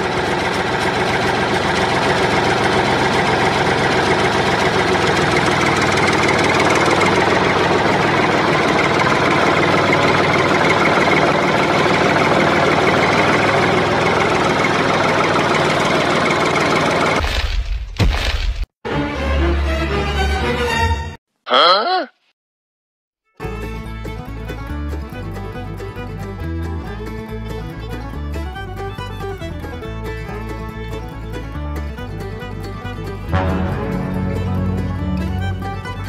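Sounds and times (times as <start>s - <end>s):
tractor engine idling: 0.0s - 17.2s, 23.4s - 36.0s.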